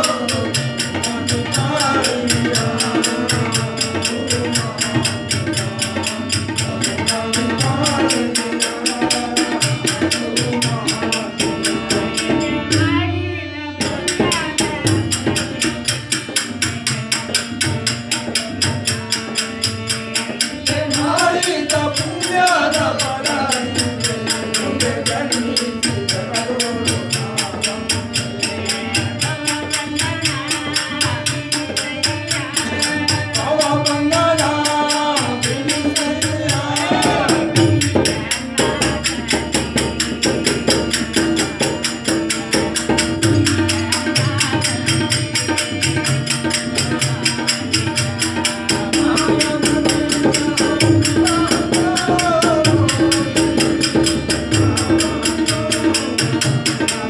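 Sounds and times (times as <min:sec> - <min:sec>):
harmonium drone: 0:00.0 - 0:57.0
tabla: 0:00.0 - 0:57.0
voices singing: 0:00.0 - 0:57.0.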